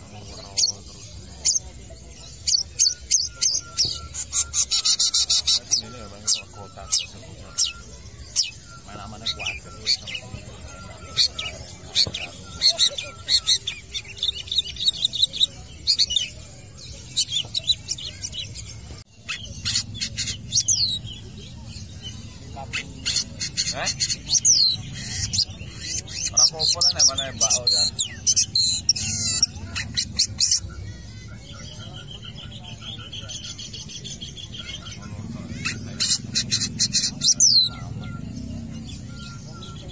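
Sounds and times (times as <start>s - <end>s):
bird singing high sharp notes: 0.0s - 39.9s
shrike calling: 0.0s - 39.9s.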